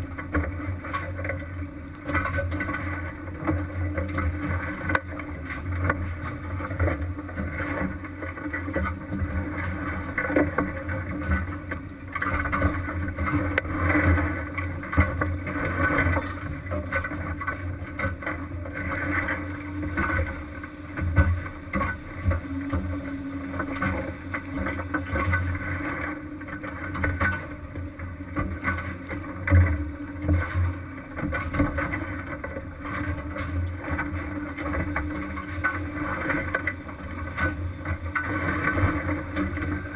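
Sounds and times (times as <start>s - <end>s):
boat engine droning: 0.0s - 39.9s
sea noise: 0.0s - 39.9s
wind: 0.0s - 39.9s.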